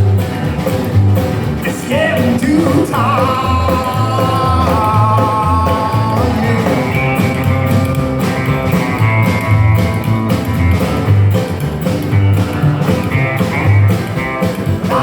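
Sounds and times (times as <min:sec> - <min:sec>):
guitar: 0:00.0 - 0:15.0
rockabilly band playing: 0:00.0 - 0:15.0.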